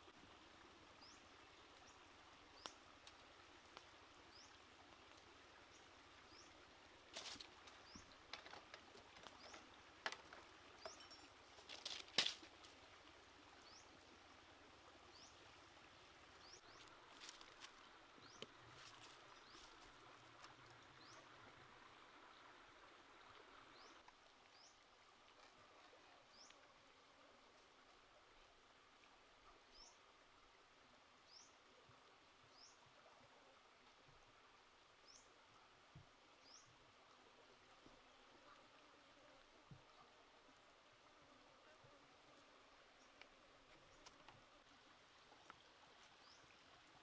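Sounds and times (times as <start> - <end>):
creek hissing: 0.0 - 47.0.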